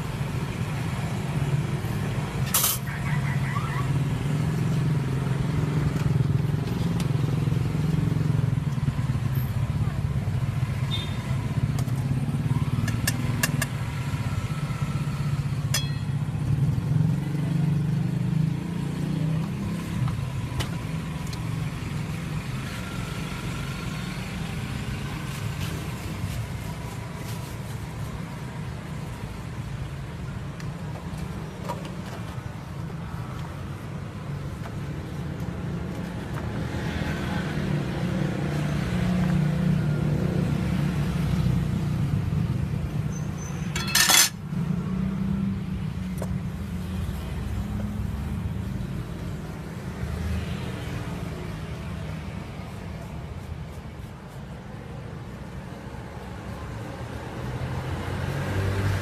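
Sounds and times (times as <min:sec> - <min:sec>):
street traffic rumble: 0:00.0 - 0:59.0.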